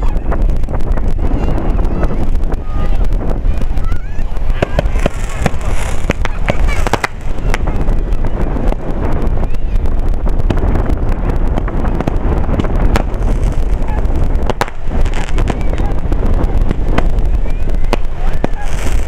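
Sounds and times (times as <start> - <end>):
fireworks bursting with bangs: 0.0 - 19.0
heavy low rumble: 0.0 - 19.0.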